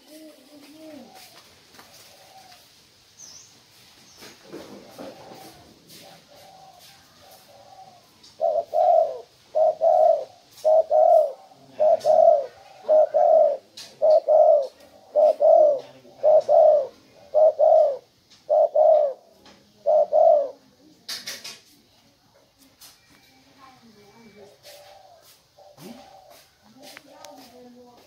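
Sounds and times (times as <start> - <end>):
dove cooing: 0.0 - 2.7, 4.4 - 20.9, 24.1 - 27.4.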